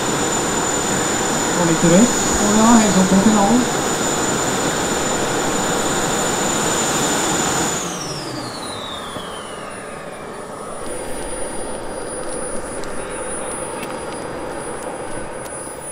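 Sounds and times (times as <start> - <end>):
gas turbines whining: 0.0 - 15.9
turbine spooling down: 0.0 - 15.9.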